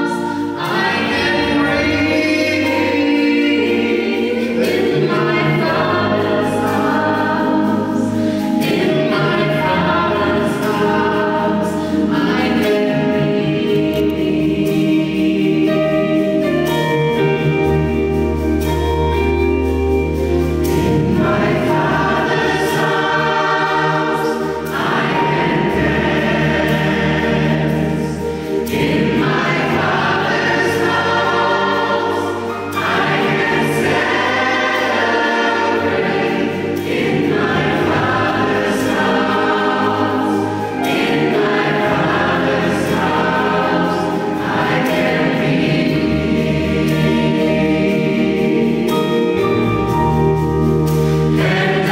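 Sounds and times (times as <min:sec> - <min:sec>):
drums: 0:00.0 - 0:51.9
gospel choir singing: 0:00.0 - 0:51.9.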